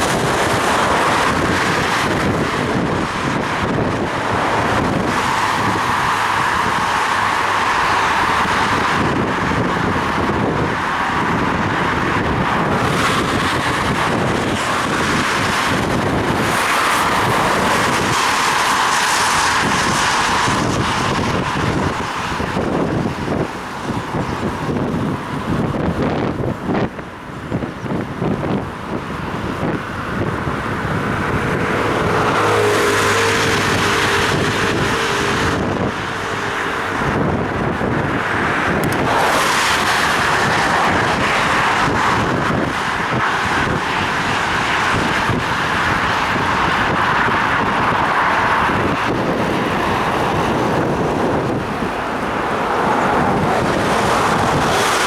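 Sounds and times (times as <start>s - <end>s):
rushing wind: 0.0s - 55.0s
wet road noise: 0.0s - 55.0s.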